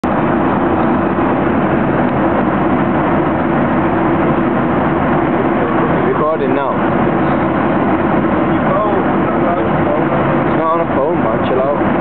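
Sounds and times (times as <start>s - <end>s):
aircraft engine and airflow drone: 0.0s - 12.0s.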